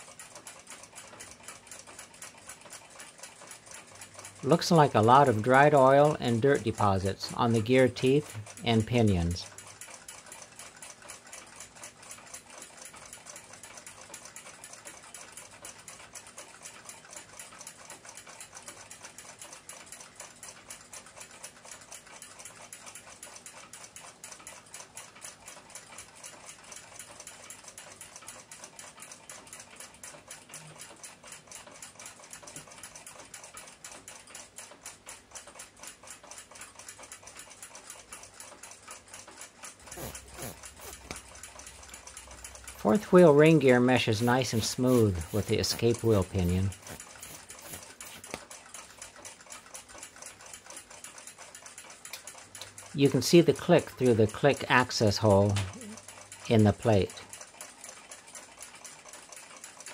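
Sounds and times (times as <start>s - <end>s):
clock ticking: 0.0s - 55.7s.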